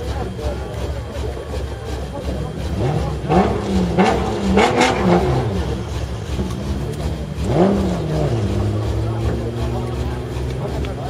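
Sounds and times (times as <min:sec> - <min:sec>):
engine revving hard: 0:00.0 - 0:11.0.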